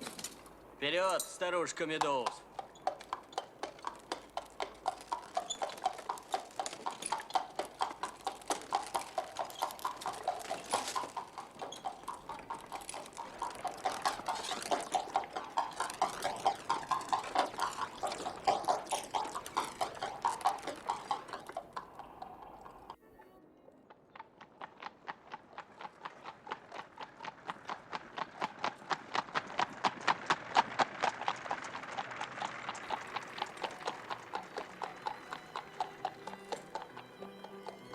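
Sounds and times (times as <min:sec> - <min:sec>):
horse hooves trotting: 0:00.0 - 0:23.0, 0:23.8 - 0:37.9.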